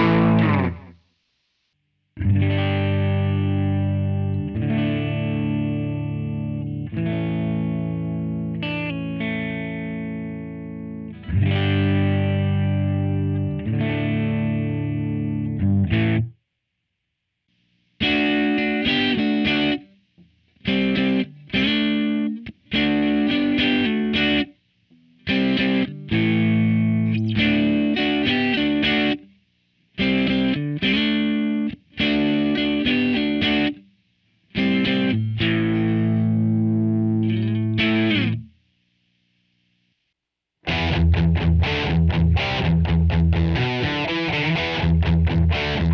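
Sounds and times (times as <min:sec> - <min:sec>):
electric guitar chords: 0:00.0 - 0:01.0, 0:02.2 - 0:16.3, 0:18.0 - 0:19.9, 0:20.6 - 0:29.3, 0:30.0 - 0:33.8, 0:34.5 - 0:38.5, 0:40.6 - 0:45.9.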